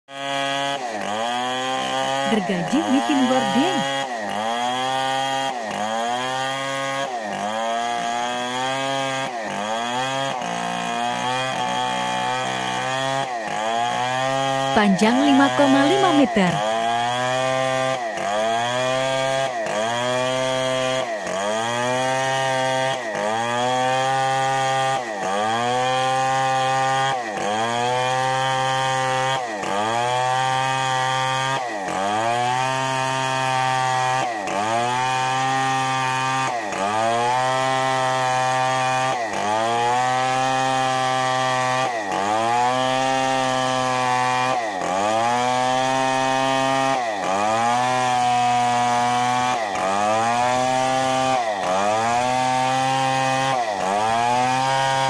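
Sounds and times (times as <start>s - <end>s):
chainsaw ripping a log: 0.1s - 55.0s.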